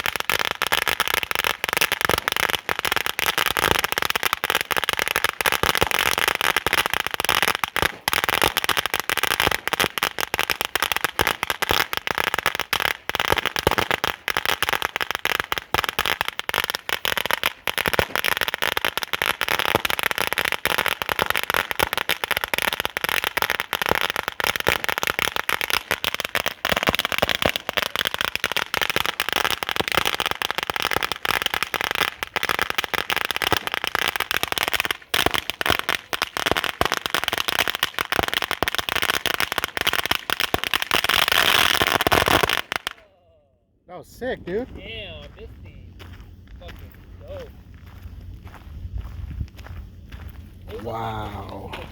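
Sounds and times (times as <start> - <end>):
firecrackers cracking and popping: 0.0 - 43.2, 44.3 - 51.9.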